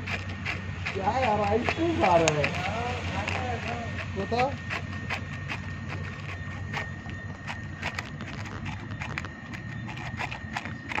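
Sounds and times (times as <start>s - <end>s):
dog lapping: 0.0s - 11.0s.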